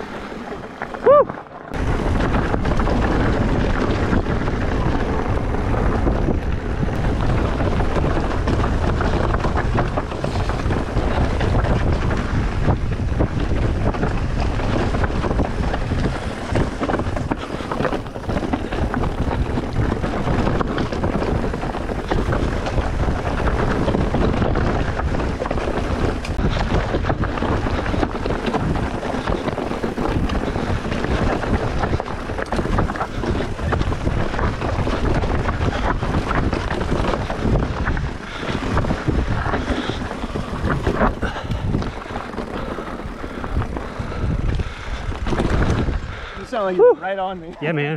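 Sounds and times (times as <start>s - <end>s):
wind rushing over microphone: 0.0s - 47.6s
bike rattling over rough ground: 0.0s - 47.9s.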